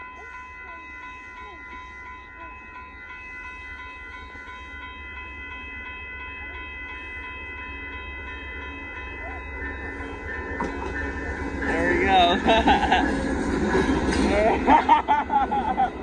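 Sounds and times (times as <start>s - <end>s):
crossing signal bell ringing: 0.0s - 16.0s
passenger train rumble: 0.0s - 16.0s.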